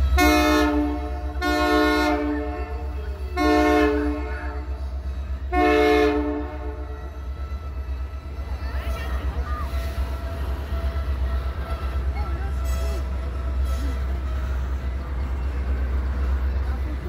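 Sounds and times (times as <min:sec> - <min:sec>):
locomotive horn blasts: 0:00.0 - 0:08.2, 0:09.9 - 0:15.7
low rumble of passing train: 0:00.0 - 0:17.0.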